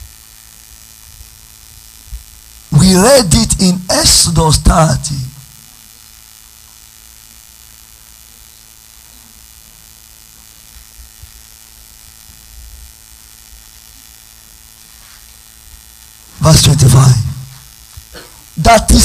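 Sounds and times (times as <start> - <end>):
background hiss: 0.0 - 19.0
electrical mains hum: 0.0 - 19.0.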